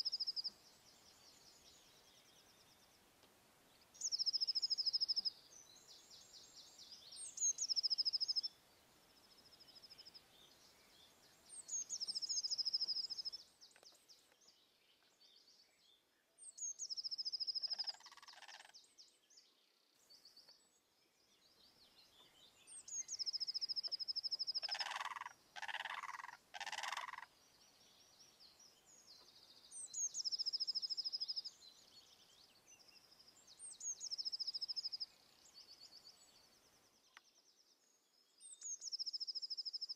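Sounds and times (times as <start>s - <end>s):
songbird singing trill: 0.0s - 39.9s.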